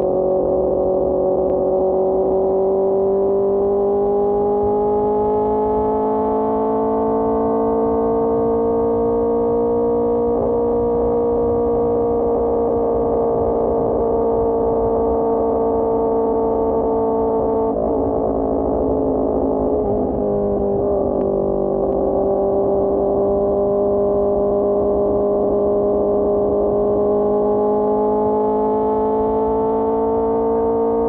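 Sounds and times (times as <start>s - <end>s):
motorcycle engine cruising: 0.0s - 31.0s.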